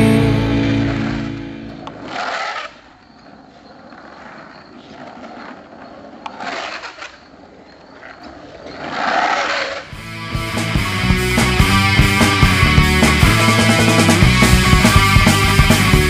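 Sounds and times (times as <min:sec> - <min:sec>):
skateboard wheels rumbling on asphalt: 0:00.8 - 0:16.0.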